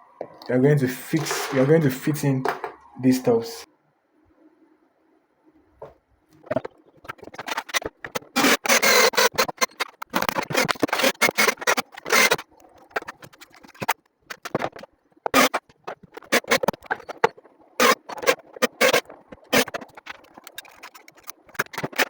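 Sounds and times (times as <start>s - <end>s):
small parts scraping and clattering: 0.3s - 3.4s, 5.8s - 22.0s.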